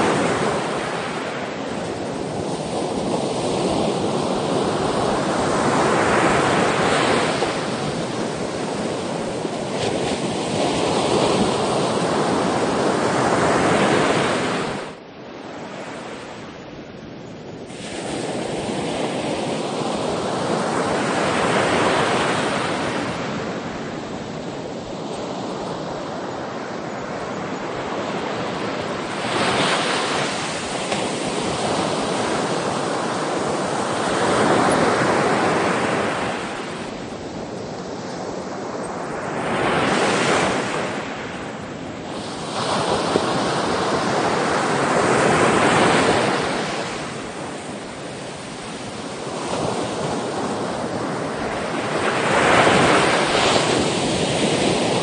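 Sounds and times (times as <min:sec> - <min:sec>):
sea waves breaking on shore: 0:00.0 - 0:16.7, 0:17.6 - 0:55.0
wind on microphone: 0:00.0 - 0:55.0.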